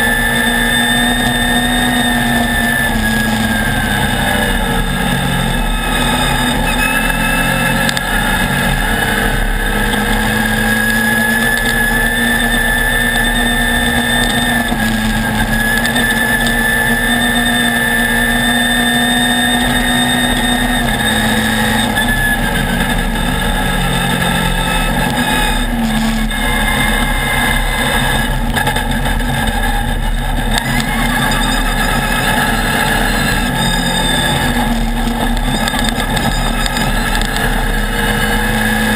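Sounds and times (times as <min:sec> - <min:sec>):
buggy engine at high revs: 0:00.0 - 0:38.9
constant rushing noise: 0:00.0 - 0:38.9.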